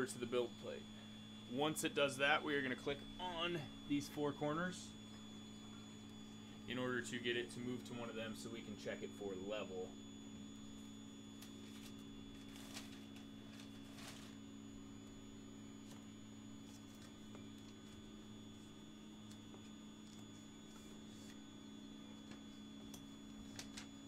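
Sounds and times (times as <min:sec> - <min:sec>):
printer humming: 0:00.0 - 0:24.0.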